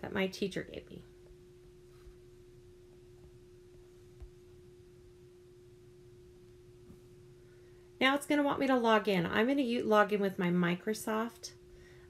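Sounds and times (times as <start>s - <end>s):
low background hiss: 0.0s - 12.0s.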